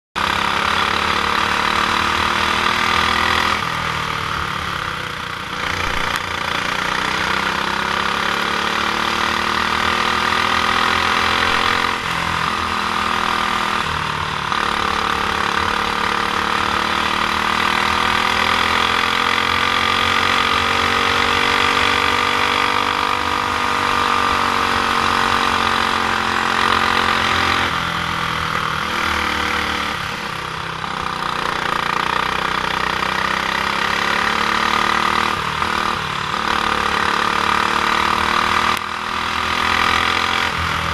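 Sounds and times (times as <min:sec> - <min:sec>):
kart engine revving: 0:00.2 - 0:40.9.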